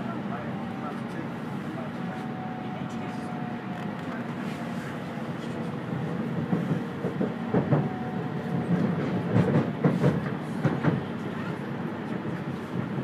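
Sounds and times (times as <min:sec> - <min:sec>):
train rolling noise: 0:00.0 - 0:13.0.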